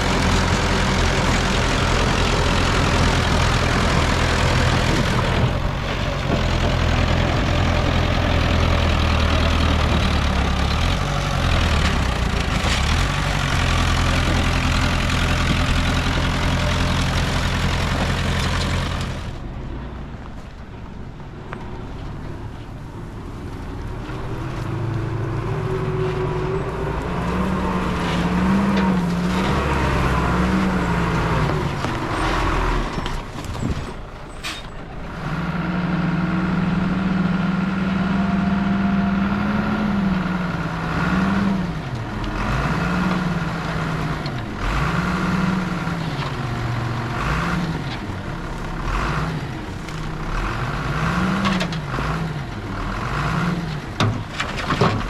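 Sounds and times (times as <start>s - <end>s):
diesel engine working under load: 0.0s - 55.0s.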